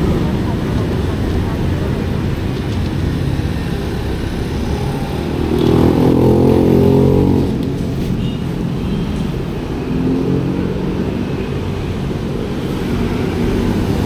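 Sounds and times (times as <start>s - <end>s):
street traffic rumbling: 0.0s - 14.0s
vehicle passing: 0.0s - 14.0s.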